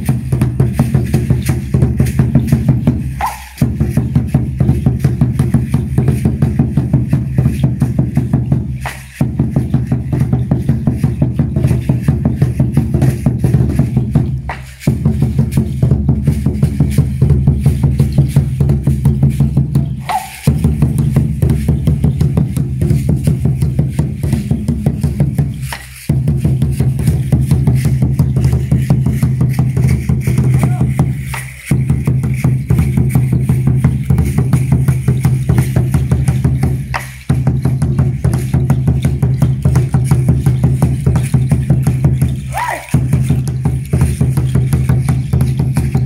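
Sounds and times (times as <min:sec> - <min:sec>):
wooden drum beaten: 0:00.0 - 0:46.0.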